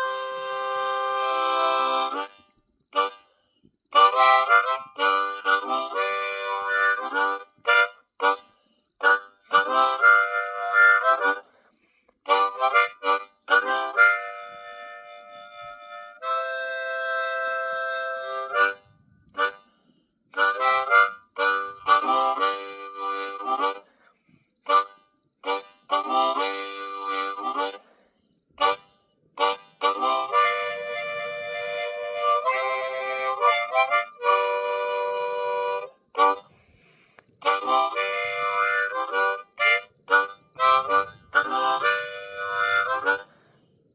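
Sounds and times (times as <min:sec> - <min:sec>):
blues harmonica playing: 0:00.0 - 0:02.4, 0:03.0 - 0:03.3, 0:03.9 - 0:11.4, 0:12.3 - 0:19.7, 0:20.3 - 0:23.8, 0:24.7 - 0:27.8, 0:28.6 - 0:36.5, 0:37.4 - 0:43.3.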